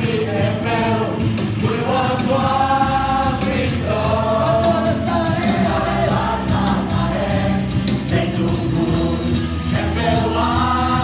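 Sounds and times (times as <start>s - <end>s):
group singing worship music: 0.0s - 11.0s
guitar-led band: 0.0s - 11.0s.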